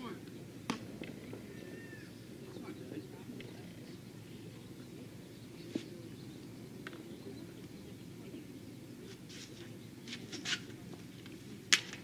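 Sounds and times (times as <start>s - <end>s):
open-air background hum: 0.0s - 12.0s.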